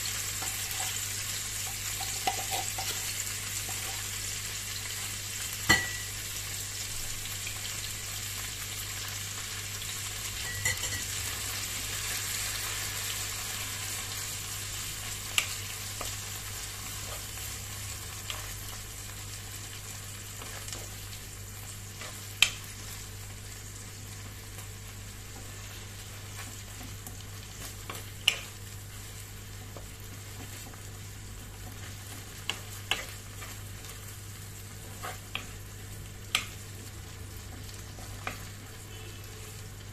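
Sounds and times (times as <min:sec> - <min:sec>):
meat sizzling in a wok: 0:00.0 - 0:39.9.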